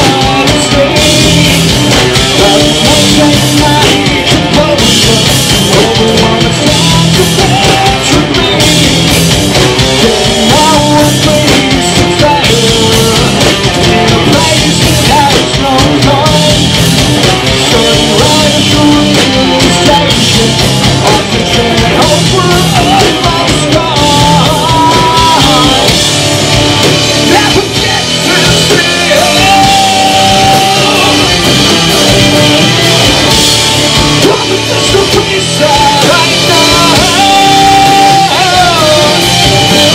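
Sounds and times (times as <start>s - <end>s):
person singing into microphone: 0.0s - 26.0s, 27.2s - 33.4s, 34.2s - 39.9s
loud rock band playing: 0.0s - 39.9s.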